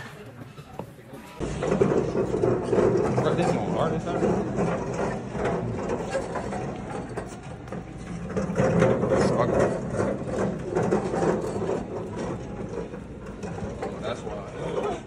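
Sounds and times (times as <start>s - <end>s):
cart rattling on concrete: 0.0s - 15.0s.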